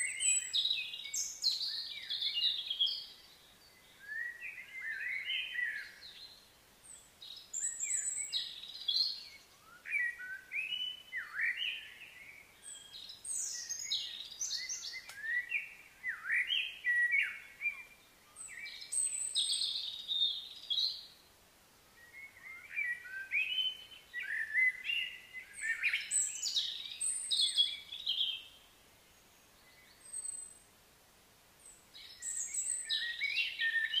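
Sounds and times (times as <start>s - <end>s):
songbirds singing: 0.0s - 34.0s.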